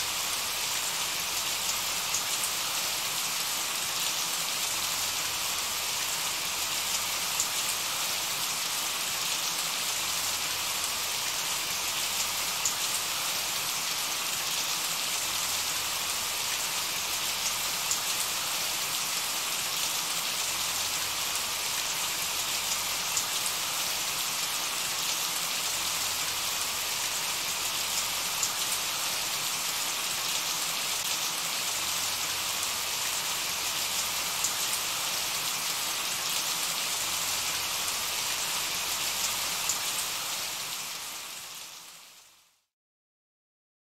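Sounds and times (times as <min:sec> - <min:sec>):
steady rain falling: 0:00.0 - 0:42.5.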